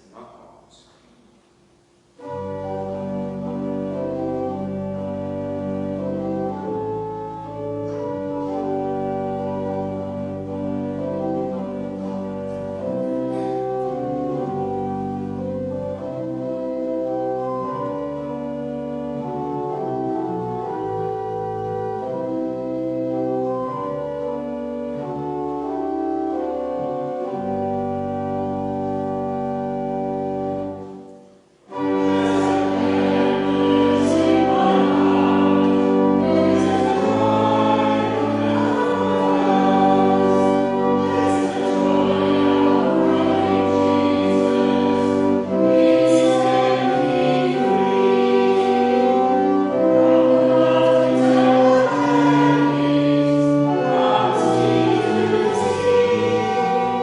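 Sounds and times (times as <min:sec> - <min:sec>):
church organ playing: 0:01.4 - 0:57.0
congregation singing a hymn: 0:02.2 - 0:31.1, 0:31.7 - 0:57.0.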